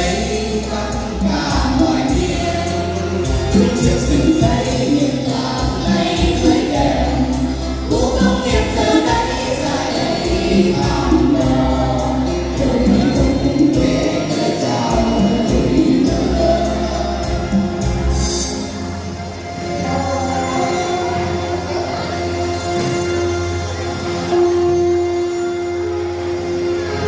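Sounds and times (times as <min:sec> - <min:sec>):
folk song sung through microphones: 0:00.0 - 0:23.8
amplified musical accompaniment: 0:00.0 - 0:27.0.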